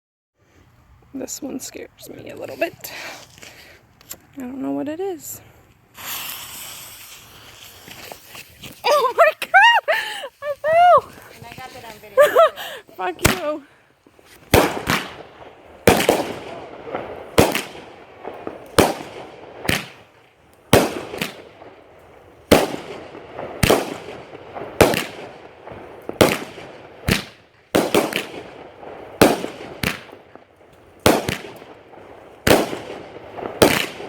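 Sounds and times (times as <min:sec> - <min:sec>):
fireworks bangs: 0:05.1 - 0:34.0.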